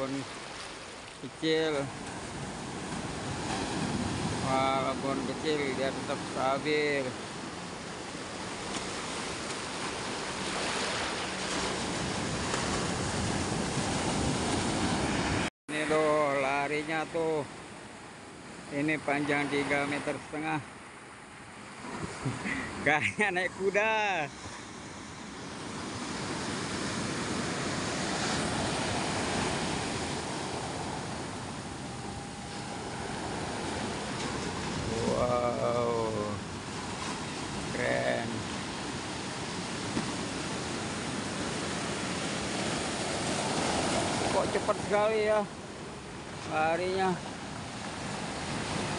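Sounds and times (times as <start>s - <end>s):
wind and sea rushing: 0.0s - 48.9s.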